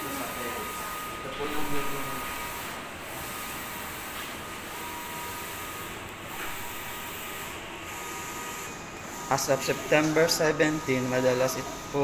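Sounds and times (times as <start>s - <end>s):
machinery hum and hiss: 0.0s - 12.0s.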